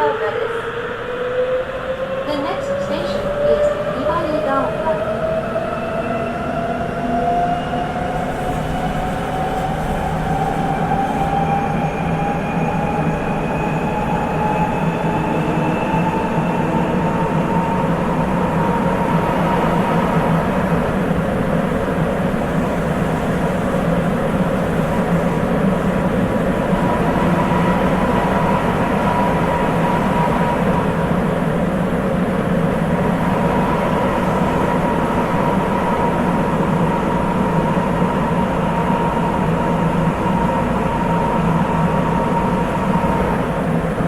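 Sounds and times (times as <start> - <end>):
train running rumble: 2.2 - 44.0.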